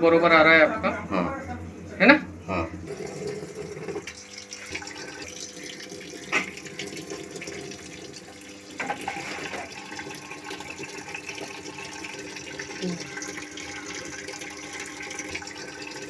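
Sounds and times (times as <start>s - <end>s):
water rushing into washing machine: 1.4s - 16.0s.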